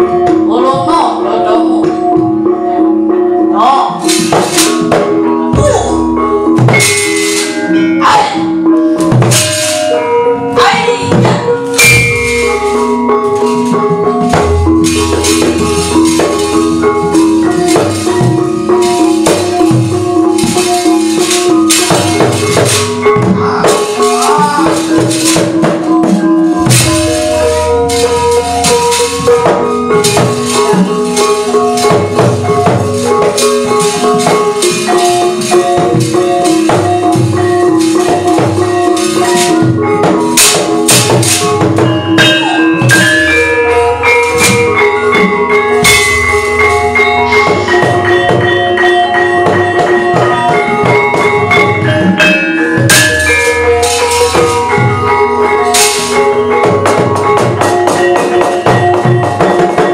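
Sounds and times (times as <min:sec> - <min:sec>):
ringing metallophone notes: 0:00.0 - 0:59.9
drum: 0:03.6 - 0:59.9
rattling metallic plate strikes: 0:04.0 - 0:08.2, 0:11.0 - 0:59.9.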